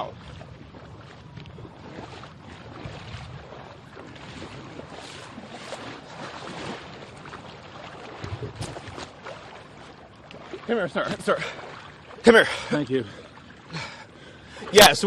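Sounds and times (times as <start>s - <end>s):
wind buffeting microphone: 0.0s - 12.2s
water splashing: 0.0s - 15.0s.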